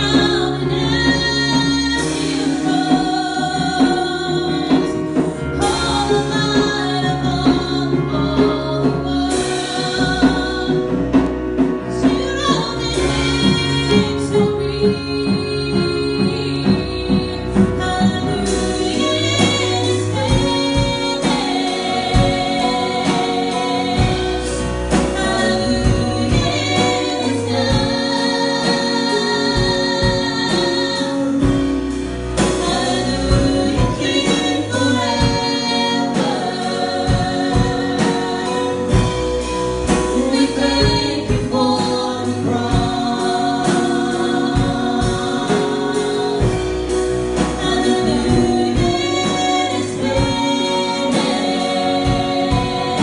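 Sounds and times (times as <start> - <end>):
band playing: 0.0 - 53.0
gospel voices singing: 0.0 - 53.0
steady drum beat: 0.0 - 53.0.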